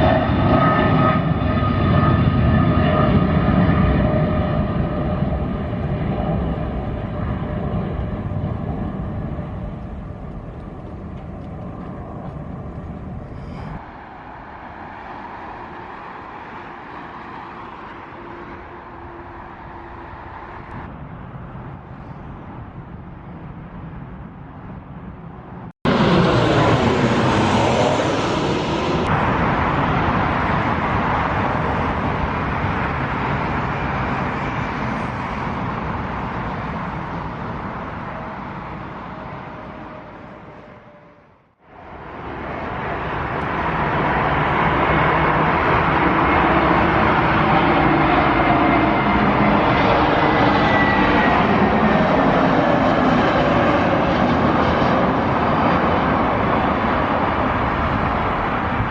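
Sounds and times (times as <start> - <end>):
jet airliner engines passing: 0.0 - 58.9.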